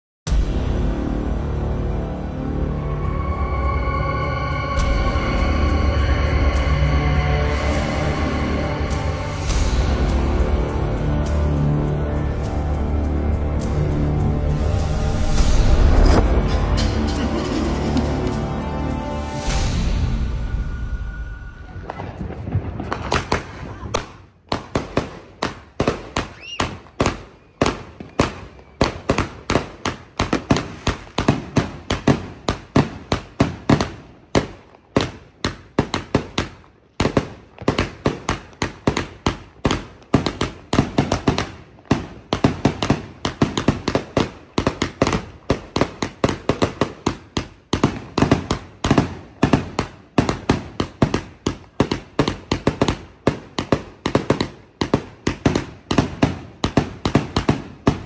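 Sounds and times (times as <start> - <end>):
fireworks launching and bursting: 6.0 - 10.5, 13.6 - 21.0, 21.6 - 58.0.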